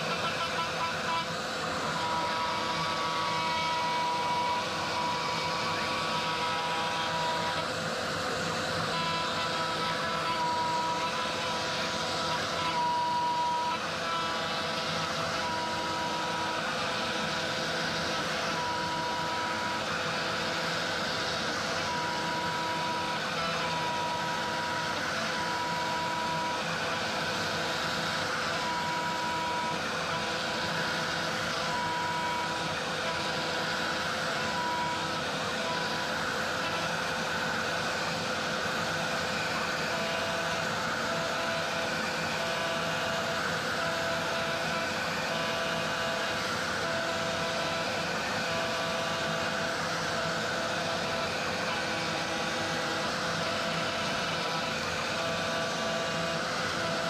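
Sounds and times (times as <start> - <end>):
router spindle whining: 0.0 - 57.0.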